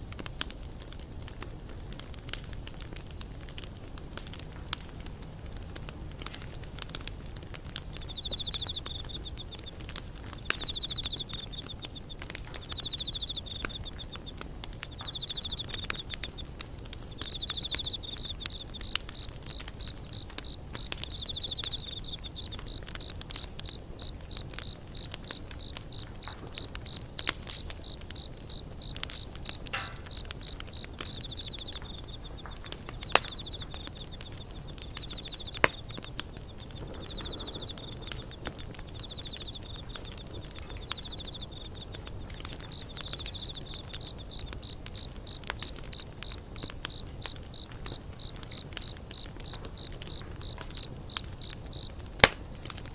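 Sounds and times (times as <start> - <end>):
campfire crackling: 0.0 - 52.9
insects trilling: 0.0 - 52.9
fast high pulsing insect call: 5.8 - 52.9.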